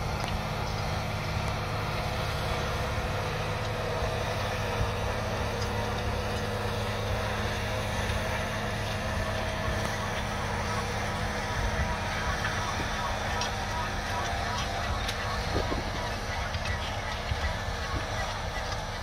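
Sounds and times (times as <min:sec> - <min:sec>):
tractor diesel engine humming: 0:00.0 - 0:19.0.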